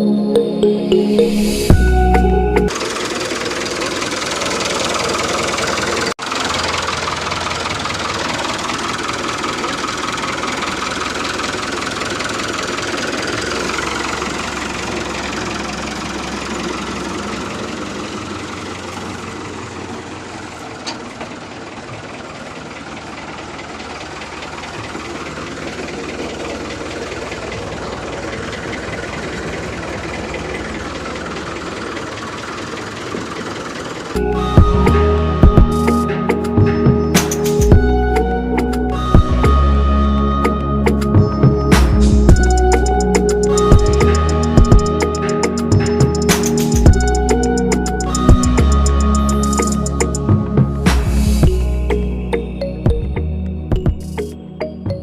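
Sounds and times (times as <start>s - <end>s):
engine running with knocking beat: 1.7s - 55.0s.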